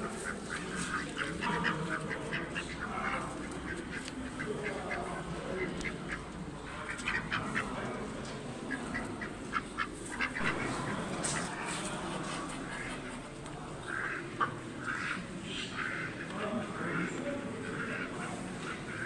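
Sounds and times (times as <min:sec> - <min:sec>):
ducks quacking: 0:00.0 - 0:19.0
hum of a crowded hall: 0:00.0 - 0:19.0.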